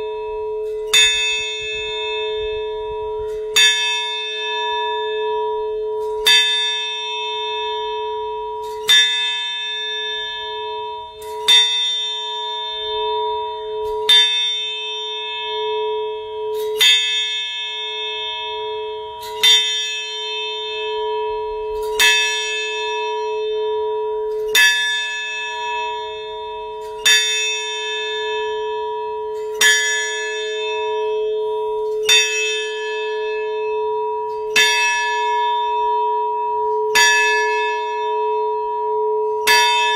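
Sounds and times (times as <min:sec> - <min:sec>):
large bell tolling: 0:00.0 - 0:39.9.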